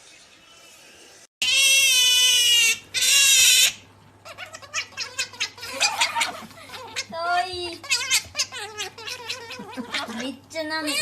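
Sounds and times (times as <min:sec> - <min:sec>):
otter squealing: 0:01.4 - 0:11.0.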